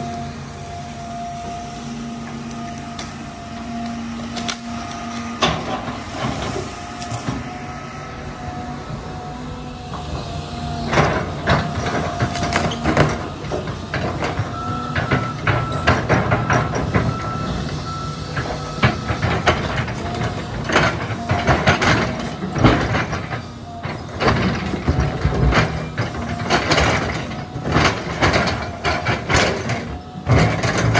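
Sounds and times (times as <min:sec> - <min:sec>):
engine whine: 0:00.0 - 0:30.9
excavator diesel engine: 0:00.0 - 0:30.9.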